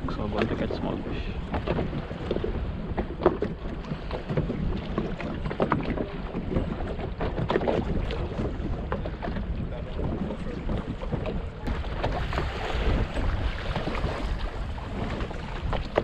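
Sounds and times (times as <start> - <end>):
sea splashing against boat hull: 0.0 - 16.0
wind buffeting microphone: 0.0 - 16.0.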